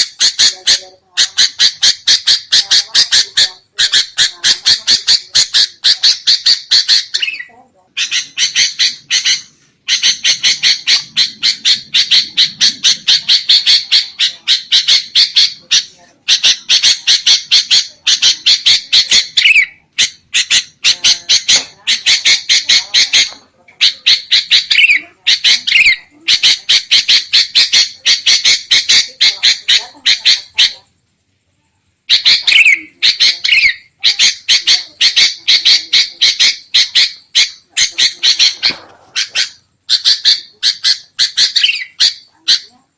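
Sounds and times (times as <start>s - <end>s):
bulbuls chattering: 0.0s - 31.1s, 32.0s - 42.9s.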